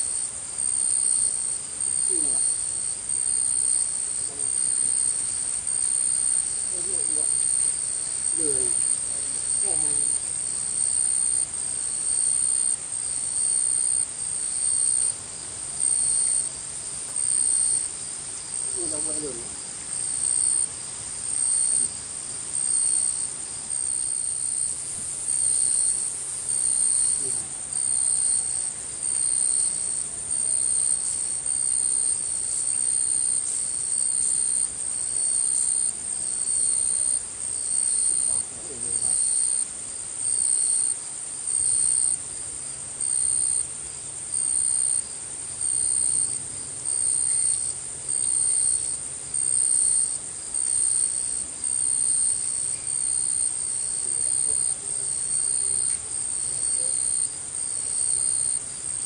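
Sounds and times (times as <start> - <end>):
insects pulsing chorus: 0.0 - 59.0.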